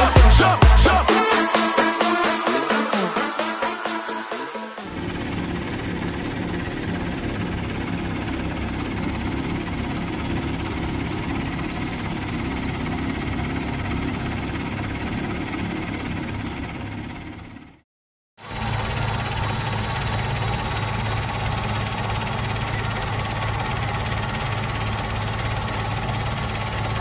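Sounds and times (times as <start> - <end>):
diesel engines running: 0.0 - 17.8, 18.4 - 27.0.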